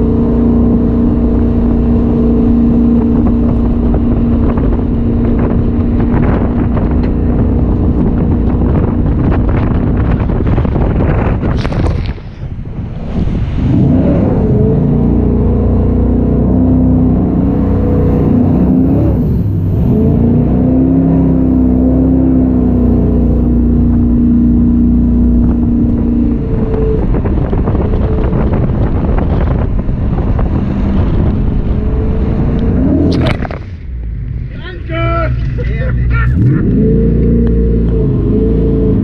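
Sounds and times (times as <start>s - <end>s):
boat engine running hard: 0.0s - 34.3s, 35.3s - 39.0s.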